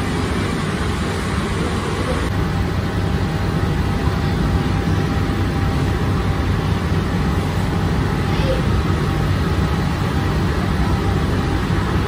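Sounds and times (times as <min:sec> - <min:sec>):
oven burner roaring: 0:00.0 - 0:12.0.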